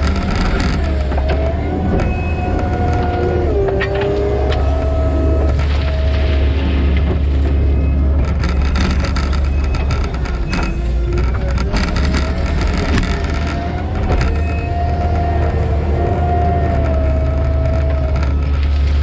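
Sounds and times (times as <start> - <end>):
clicks and clatter: 0.0 - 19.0
diesel engine running: 0.0 - 19.0
hydraulic whine: 0.0 - 19.0.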